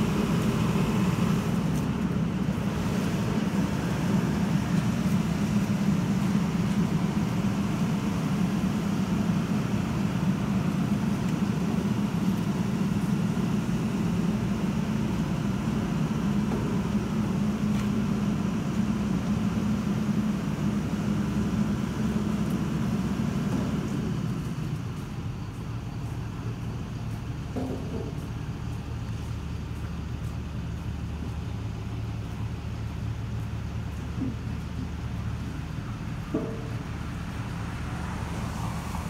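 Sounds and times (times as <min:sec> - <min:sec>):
heavy machinery engine droning: 0:00.0 - 0:39.0.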